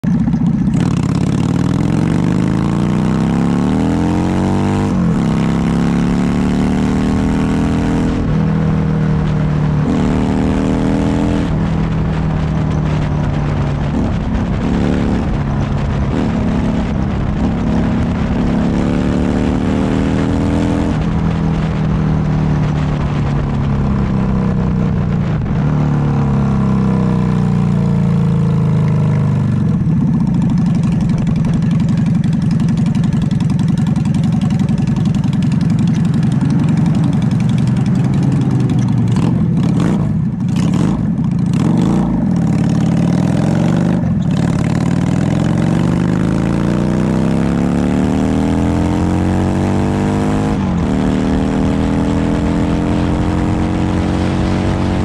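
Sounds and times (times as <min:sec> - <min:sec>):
motorcycle engine accelerating: 0:00.0 - 0:55.0
wind noise: 0:00.0 - 0:55.0.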